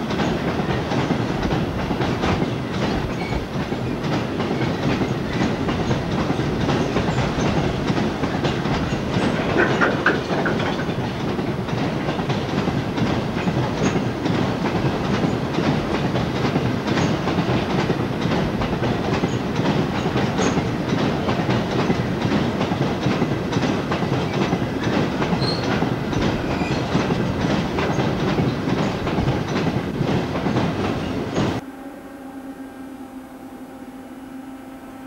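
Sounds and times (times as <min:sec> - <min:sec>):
wagon wheels clicking over rail joints: 0:00.0 - 0:31.6.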